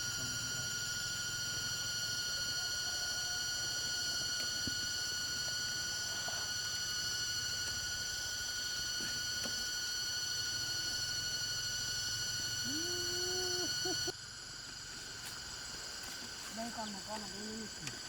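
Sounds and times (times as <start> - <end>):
high-pitched whine: 0.0 - 17.8.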